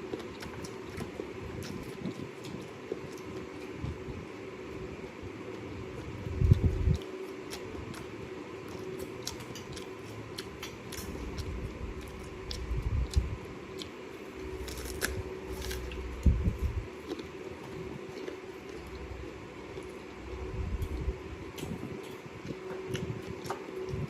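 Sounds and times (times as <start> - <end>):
biting and chewing fruit: 0.0 - 24.0
faint hum: 0.0 - 24.0.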